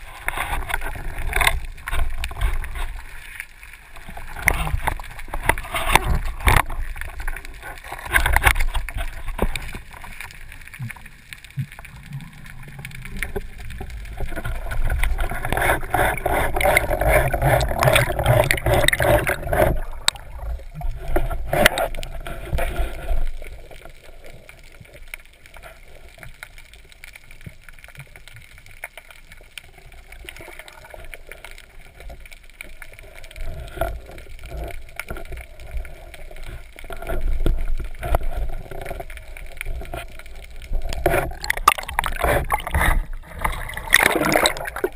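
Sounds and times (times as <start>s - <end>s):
underwater rushing and gurgling: 0.0s - 44.9s.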